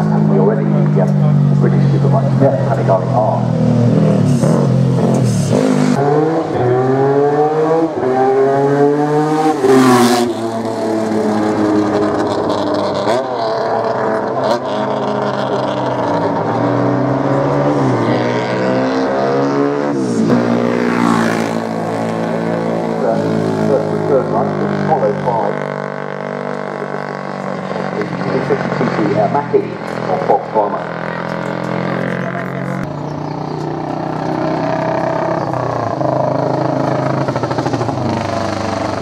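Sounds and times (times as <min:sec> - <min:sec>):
racing motorcycle engines accelerating: 0:00.0 - 0:39.0.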